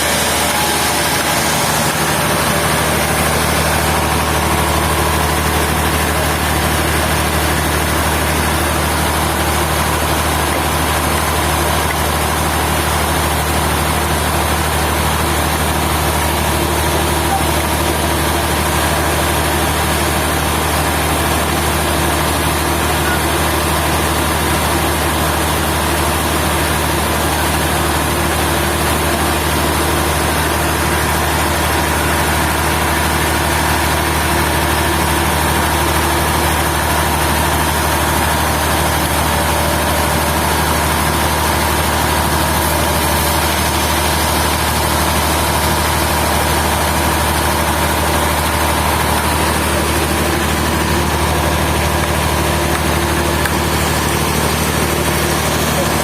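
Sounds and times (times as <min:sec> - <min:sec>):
engine drone: 0:00.0 - 0:56.0
high machine whine: 0:00.0 - 0:56.0.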